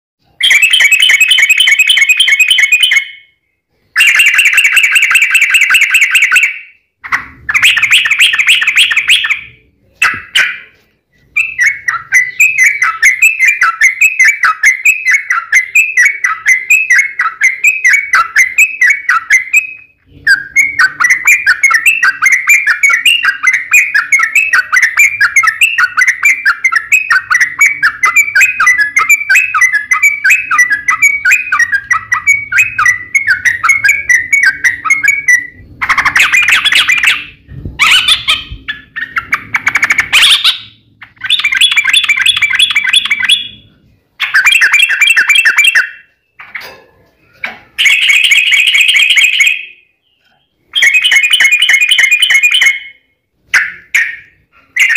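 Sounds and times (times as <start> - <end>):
bird song trilling: 0.2 - 54.9.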